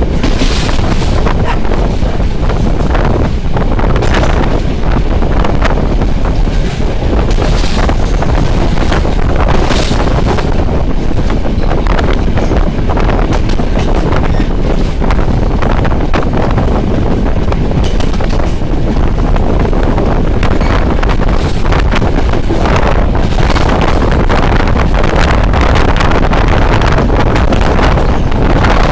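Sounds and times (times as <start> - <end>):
moving train rumble: 0.0 - 28.9
wind buffeting microphone: 0.0 - 28.9.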